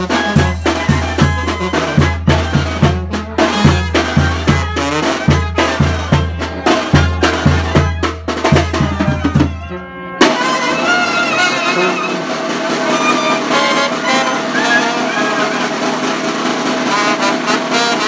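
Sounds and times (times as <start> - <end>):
brass band playing dance tune: 0.0 - 18.0
drum beats: 0.0 - 18.0.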